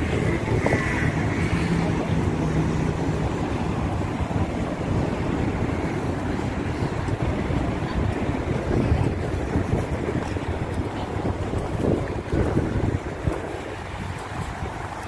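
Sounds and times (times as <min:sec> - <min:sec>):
rumbling city ambience: 0:00.0 - 0:15.0
wind buffeting microphone: 0:00.0 - 0:15.0.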